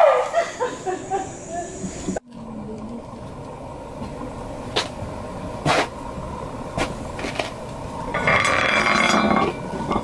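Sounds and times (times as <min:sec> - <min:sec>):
steady low hum: 0:00.3 - 0:10.0.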